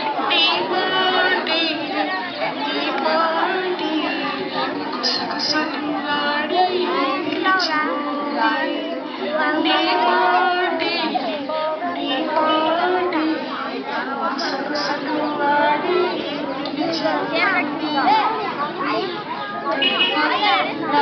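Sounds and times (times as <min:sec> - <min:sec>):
woman singing a song: 0:00.0 - 0:18.0
children's voices: 0:00.0 - 0:21.0.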